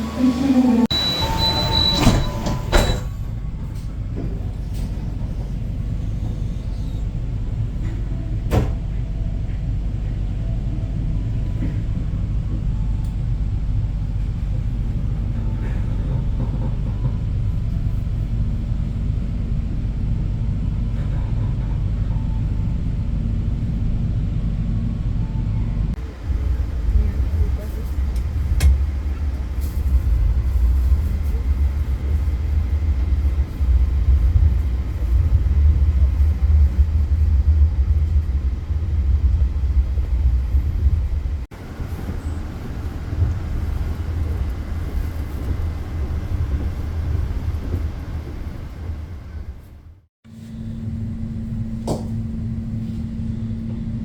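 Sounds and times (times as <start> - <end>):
train coach rumbling: 0.0 - 54.0.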